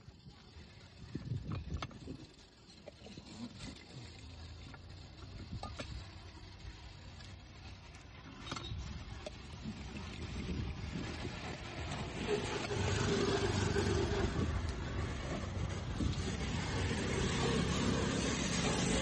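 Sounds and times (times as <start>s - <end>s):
low steady rumble: 0.0s - 19.0s.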